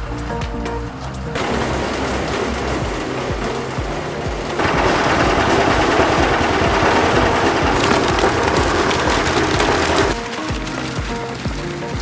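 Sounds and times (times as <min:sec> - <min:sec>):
concrete mixer emptying concrete: 0:01.4 - 0:12.0.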